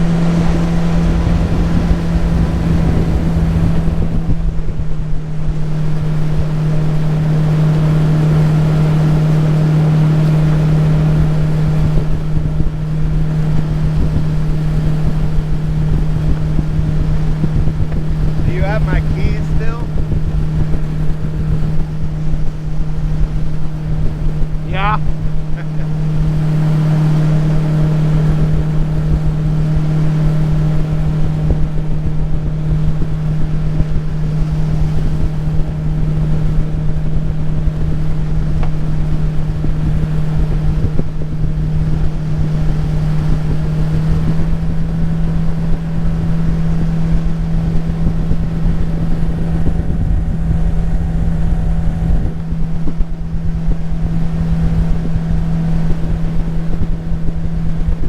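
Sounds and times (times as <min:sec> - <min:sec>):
outboard motor running: 0:00.0 - 0:58.0
wind buffeting microphone: 0:00.0 - 0:58.0.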